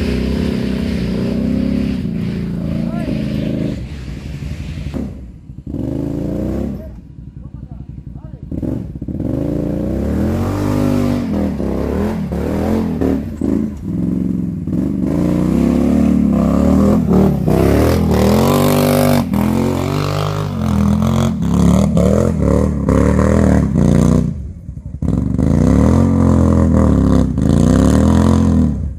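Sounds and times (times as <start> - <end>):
quad bike engine revving: 0.0 - 28.9.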